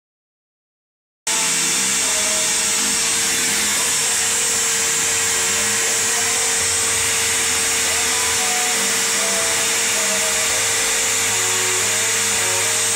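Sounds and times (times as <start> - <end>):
vacuum cleaner running: 1.3 - 12.9.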